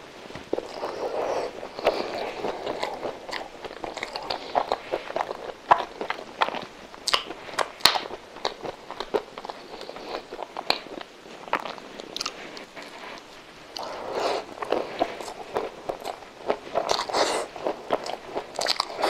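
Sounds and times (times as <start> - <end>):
person chewing and smacking: 0.4 - 19.0.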